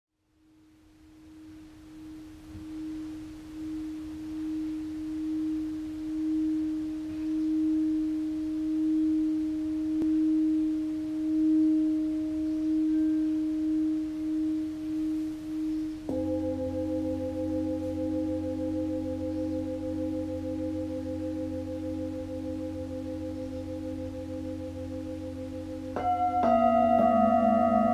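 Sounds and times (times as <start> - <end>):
faint higher tone: 0.5 - 27.9
sustained humming tone: 0.5 - 27.9.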